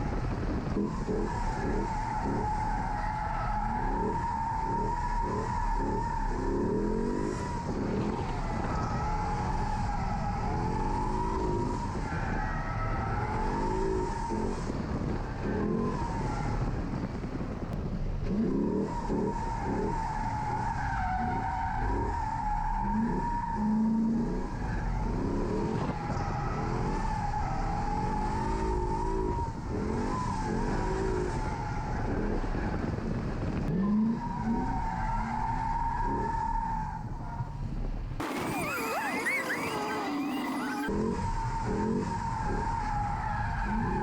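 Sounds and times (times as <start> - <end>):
car engine revving: 0.0 - 37.2, 38.2 - 44.0
tire squealing: 0.0 - 44.0.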